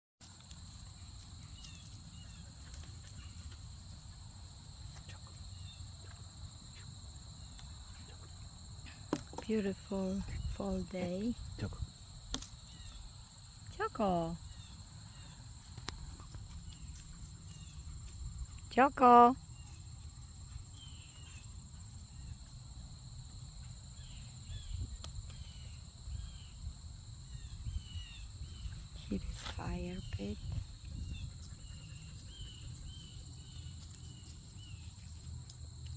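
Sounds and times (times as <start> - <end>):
insects trilling: 0.2 - 35.9.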